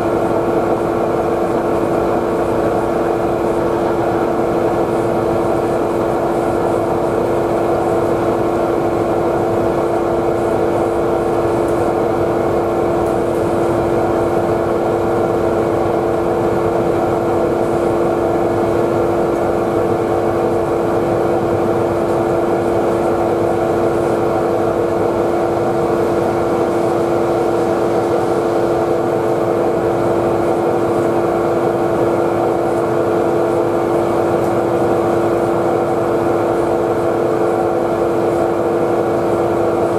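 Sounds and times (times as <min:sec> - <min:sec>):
ship diesel engine drone: 0:00.0 - 0:39.9.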